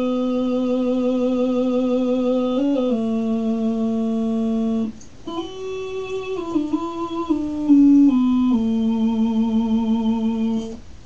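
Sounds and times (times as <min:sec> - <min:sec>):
talk box keyboard notes: 0:00.0 - 0:10.8.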